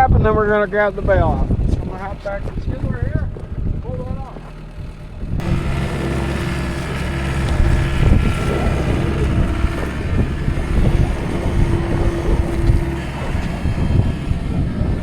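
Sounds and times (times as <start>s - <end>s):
engine whine: 0.0s - 15.0s
low knocks and rumble: 0.0s - 15.0s
skid loader engine running: 0.0s - 15.0s.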